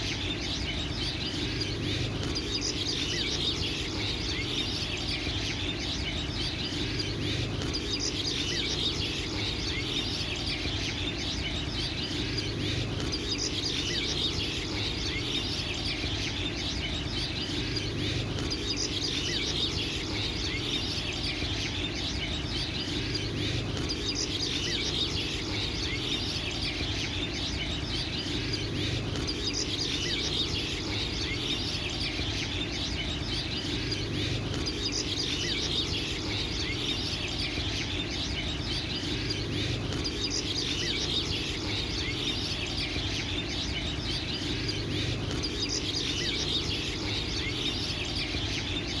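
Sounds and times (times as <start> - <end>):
small birds chirping: 0.0 - 49.0
steady low background noise: 0.0 - 49.0.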